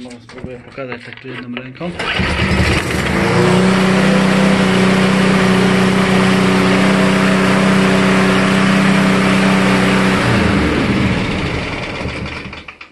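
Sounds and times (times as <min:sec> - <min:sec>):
lawn mower engine running: 0:01.9 - 0:12.9.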